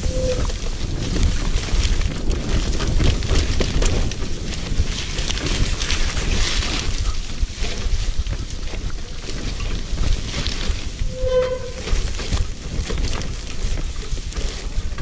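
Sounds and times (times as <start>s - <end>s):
grass swishing against wheels: 0.0s - 15.0s
wind noise on microphone: 0.0s - 15.0s
small knocks and rattles: 1.0s - 15.0s.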